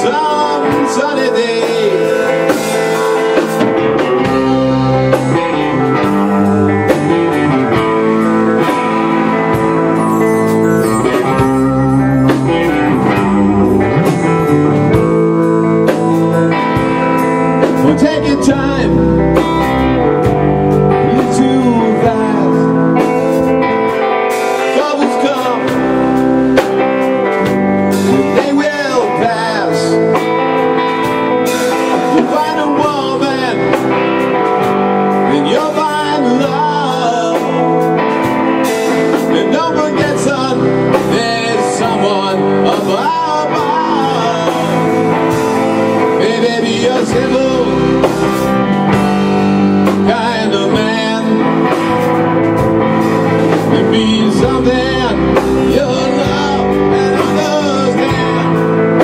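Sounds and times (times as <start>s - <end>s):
drum kit with cymbals: 0.0s - 59.0s
electric guitars: 0.0s - 59.0s.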